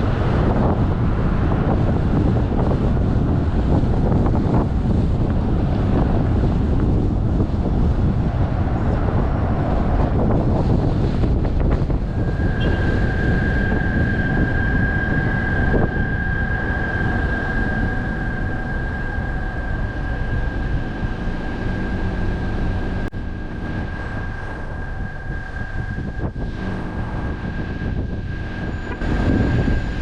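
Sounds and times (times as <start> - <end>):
high-pitched whine: 0.0 - 30.0
vehicle rumble: 0.0 - 30.0.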